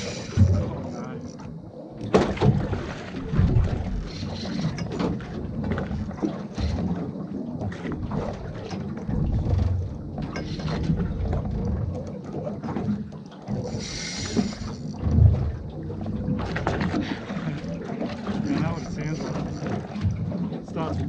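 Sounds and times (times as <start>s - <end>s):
water slapping against boat hull: 0.0s - 21.0s.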